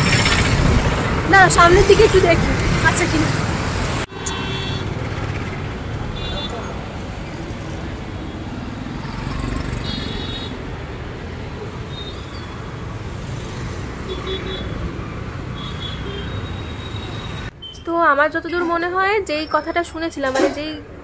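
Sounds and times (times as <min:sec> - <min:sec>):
motorcycles and cars passing: 0:00.0 - 0:17.5.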